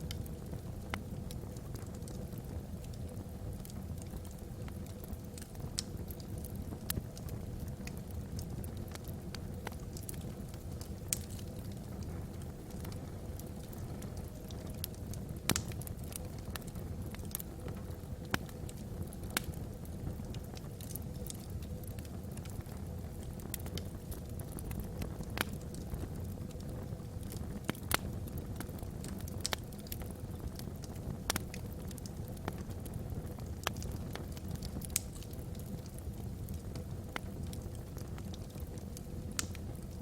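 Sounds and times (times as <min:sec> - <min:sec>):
fire crackles and pops: 0:00.0 - 0:40.0
log fire burning: 0:00.0 - 0:40.0.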